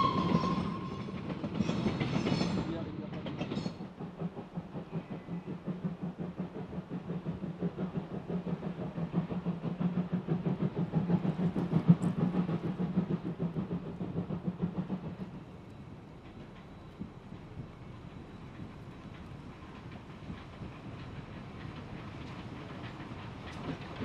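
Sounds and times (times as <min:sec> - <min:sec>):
steam locomotive exhaust beats: 0:00.0 - 0:24.0.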